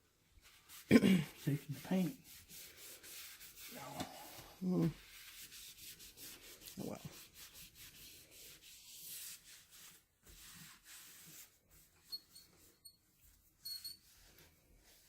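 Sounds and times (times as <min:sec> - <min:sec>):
cloth rubbing painted metal: 0:00.4 - 0:15.0.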